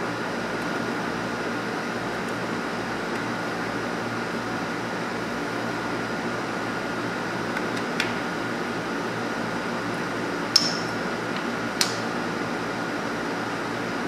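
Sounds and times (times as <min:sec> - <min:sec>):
steady fan-like hum: 0:00.0 - 0:14.0.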